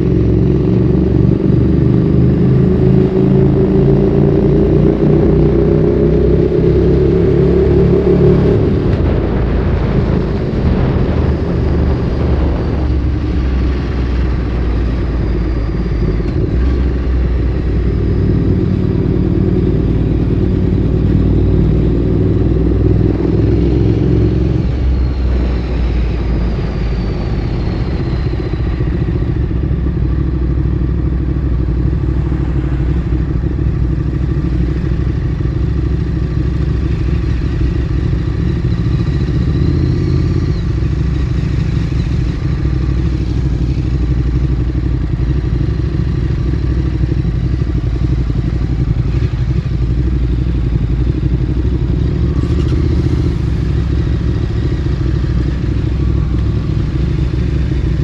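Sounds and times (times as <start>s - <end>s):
motorcycle engine at low revs: 0.0s - 58.0s.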